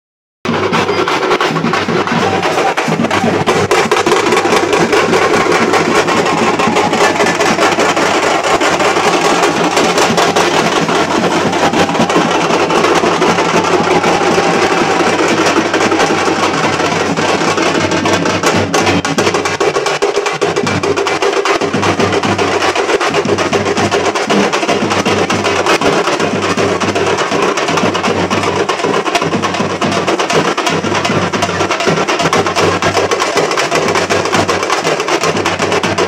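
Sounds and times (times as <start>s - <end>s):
drummers playing fast rhythm: 0.4s - 36.0s.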